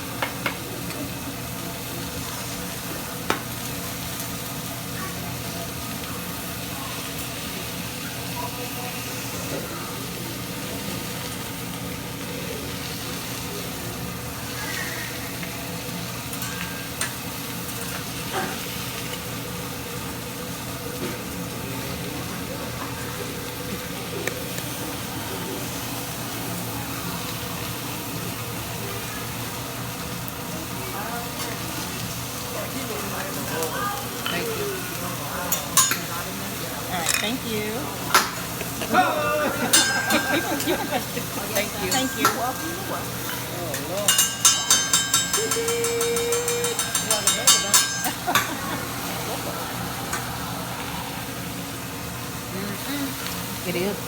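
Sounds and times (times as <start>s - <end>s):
food sizzling on a griddle: 0.0s - 54.0s.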